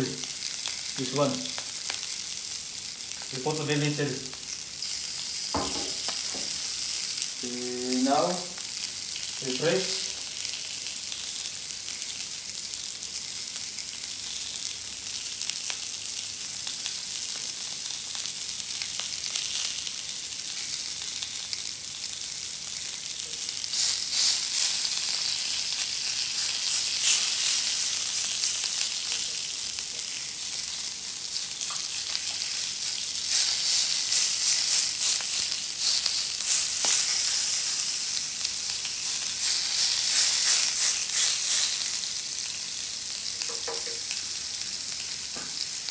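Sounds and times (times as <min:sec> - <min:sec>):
fish sizzling and spitting: 0:00.0 - 0:45.9.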